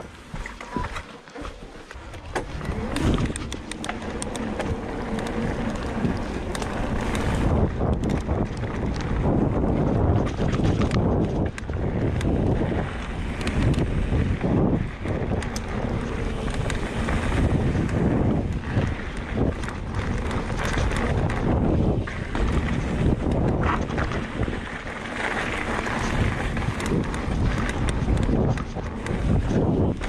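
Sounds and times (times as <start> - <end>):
bike clicks and rattles: 0.0 - 30.0
tyre noise on dirt: 0.0 - 30.0
wind buffeting microphone: 2.0 - 30.0.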